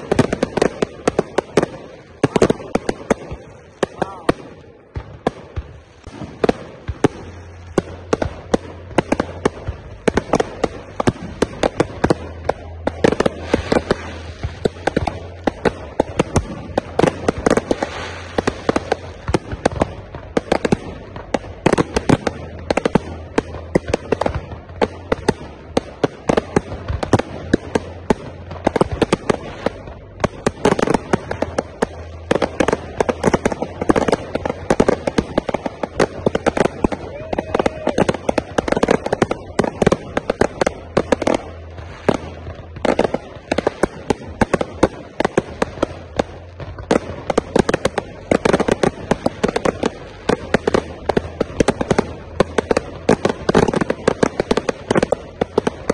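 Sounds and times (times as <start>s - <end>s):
fireworks crackling: 0.0s - 55.9s.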